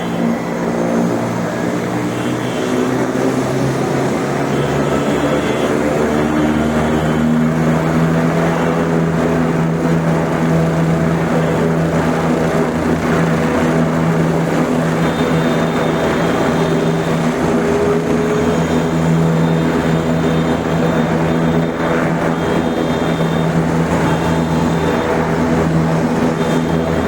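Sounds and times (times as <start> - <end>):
helicopter engine and rotor drone: 0.0 - 27.0.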